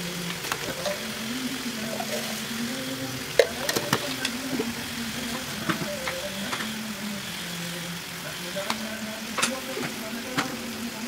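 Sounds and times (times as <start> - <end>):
paste sizzling in a wok: 0.0 - 11.0.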